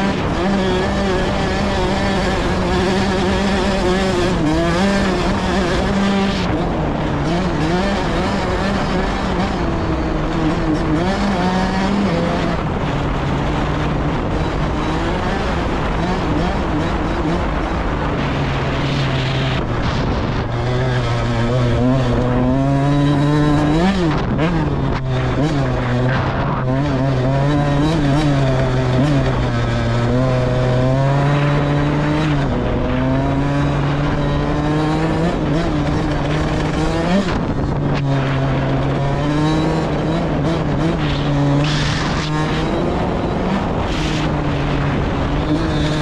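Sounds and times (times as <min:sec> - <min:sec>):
off-road vehicle engine revving: 0:00.0 - 0:46.0.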